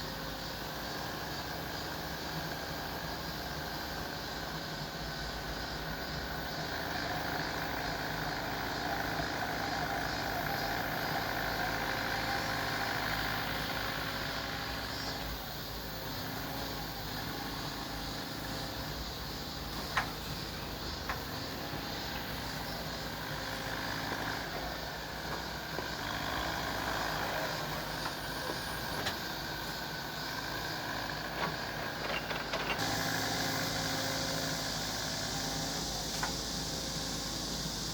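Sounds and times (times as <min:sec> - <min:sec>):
heavy engine running: 0:00.0 - 0:37.9.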